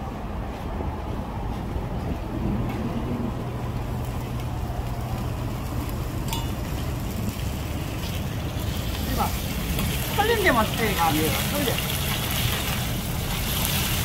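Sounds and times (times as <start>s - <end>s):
low rumble of street noise: 0.0s - 14.0s.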